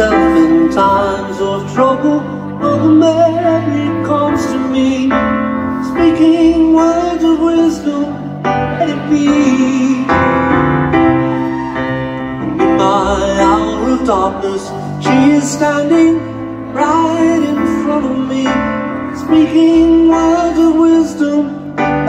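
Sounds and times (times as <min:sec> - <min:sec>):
person singing: 0:00.0 - 0:22.0
piano playing slow chords: 0:00.0 - 0:22.0.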